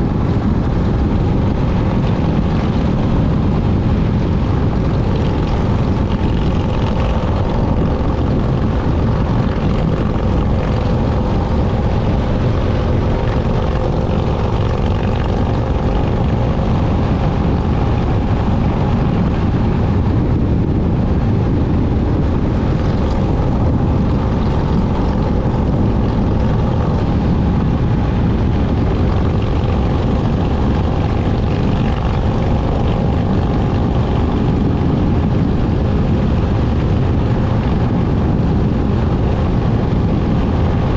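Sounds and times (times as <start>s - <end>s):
low rushing noise: 0.0s - 40.9s
motorcycle engine droning: 0.0s - 40.9s.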